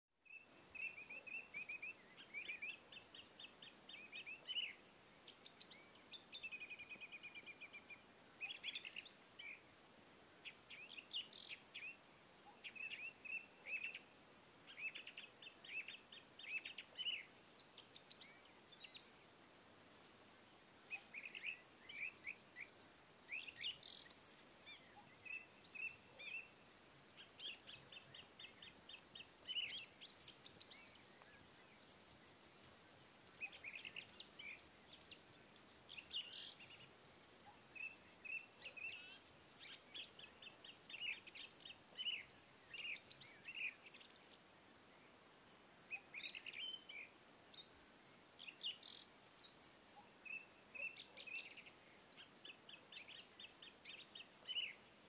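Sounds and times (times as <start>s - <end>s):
small birds chirping: 0.2s - 45.2s, 45.9s - 55.0s.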